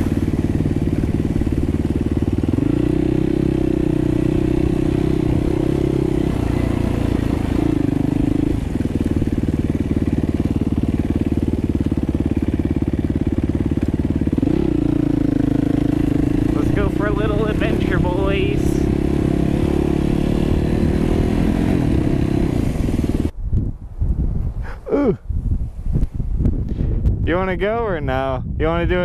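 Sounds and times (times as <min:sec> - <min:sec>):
dirt bike engine running: 0:00.0 - 0:23.3.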